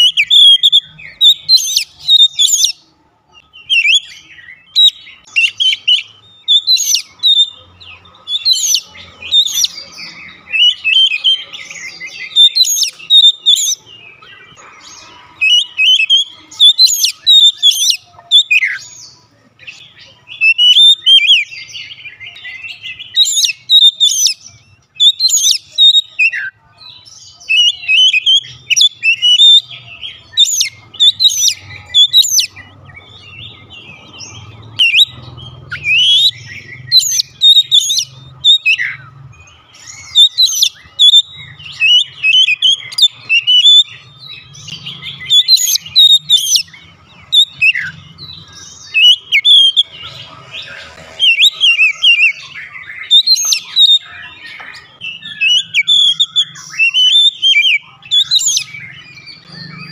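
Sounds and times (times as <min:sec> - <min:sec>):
bird singing whistles and chirps: 0:00.0 - 0:02.8, 0:03.4 - 0:59.9.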